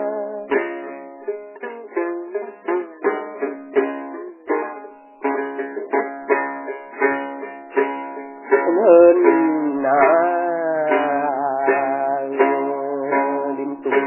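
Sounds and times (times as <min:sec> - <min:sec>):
plucked string melody: 0:00.0 - 0:14.0.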